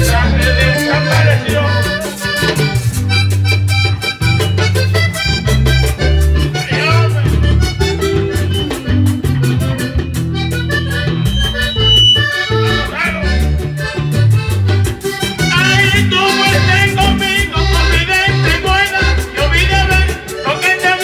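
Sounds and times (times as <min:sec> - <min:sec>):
button accordion playing: 0:00.0 - 0:21.0
drum keeping steady beat: 0:00.0 - 0:21.0
low bass notes: 0:00.0 - 0:21.0.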